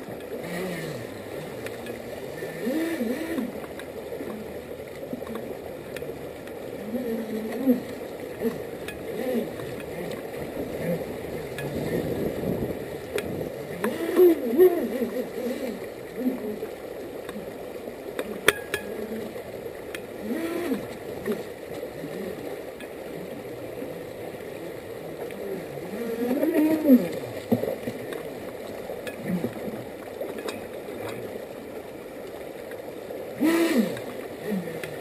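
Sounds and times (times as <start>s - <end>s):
model boat motor whining: 0.0s - 28.2s, 33.3s - 35.0s
creek water rushing: 0.0s - 35.0s.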